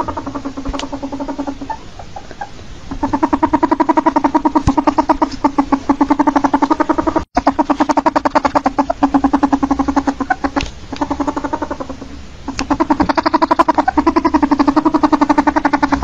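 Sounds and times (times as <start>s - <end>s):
ferret clucking: 0.0s - 16.0s.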